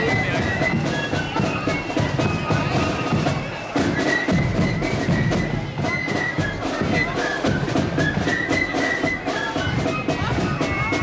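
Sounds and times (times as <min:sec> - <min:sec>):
steady drumbeat: 0:00.0 - 0:11.0
wind instruments playing melody: 0:00.0 - 0:11.0.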